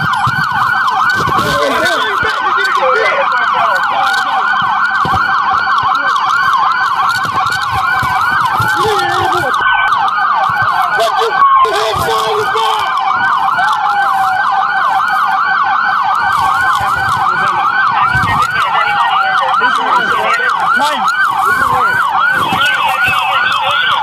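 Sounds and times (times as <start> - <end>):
police sirens yelping and wailing: 0.0 - 24.0.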